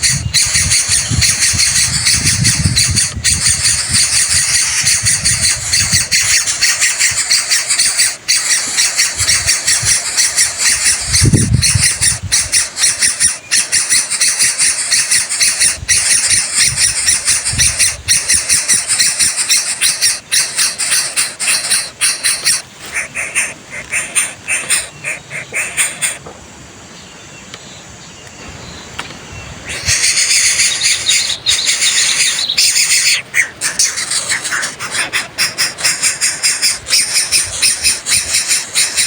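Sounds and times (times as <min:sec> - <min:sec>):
nestlings rasping begging calls: 0:00.0 - 0:26.2, 0:29.6 - 0:39.0.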